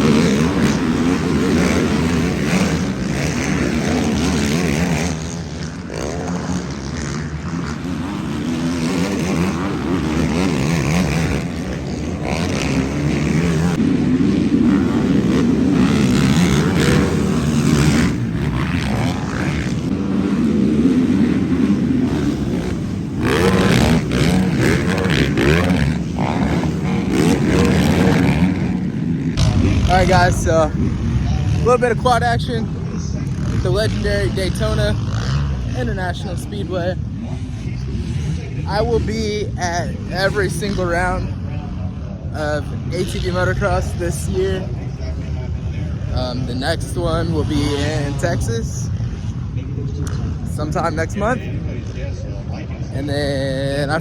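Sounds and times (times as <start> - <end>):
quad engines revving: 0.0 - 54.0.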